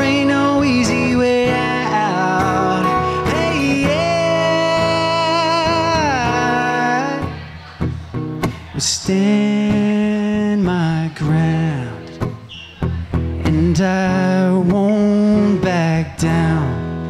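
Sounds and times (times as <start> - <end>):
man singing: 0.0 - 7.6, 8.6 - 12.4, 13.4 - 17.0.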